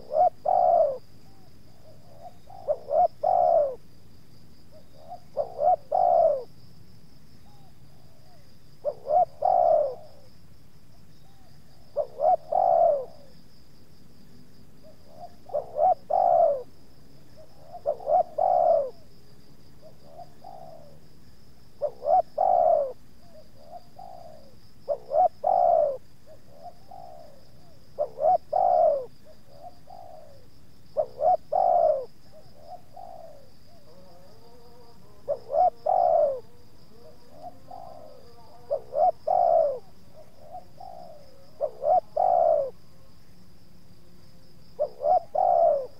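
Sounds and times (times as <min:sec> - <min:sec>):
dove cooing: 0:00.0 - 0:03.8, 0:04.7 - 0:06.5, 0:07.4 - 0:10.3, 0:11.2 - 0:13.4, 0:14.8 - 0:19.1, 0:19.8 - 0:21.1, 0:21.8 - 0:42.9, 0:44.7 - 0:45.9.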